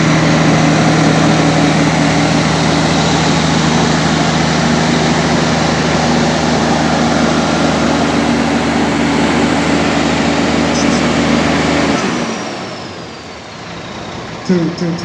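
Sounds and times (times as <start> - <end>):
broad rushing noise: 0.0 - 13.6
heavy engine humming: 0.0 - 15.0.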